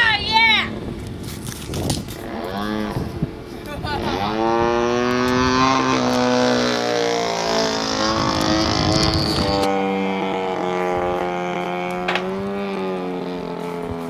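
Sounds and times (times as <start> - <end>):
model plane engine buzzing: 2.0 - 14.0.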